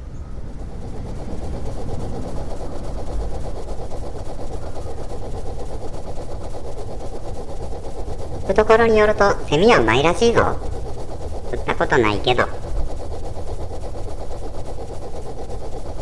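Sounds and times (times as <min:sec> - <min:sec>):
rapid mechanical rattle: 0:00.0 - 0:16.0.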